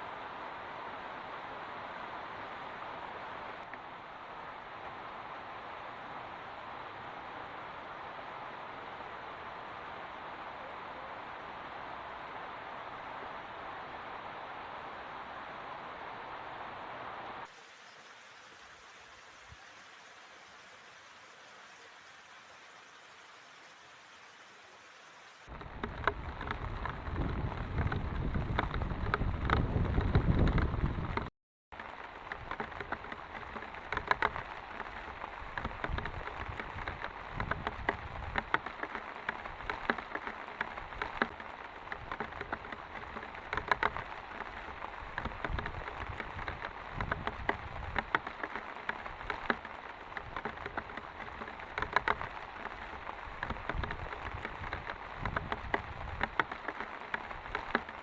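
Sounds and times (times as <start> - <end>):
heavy rain falling: 0.0 - 23.3, 25.1 - 58.0.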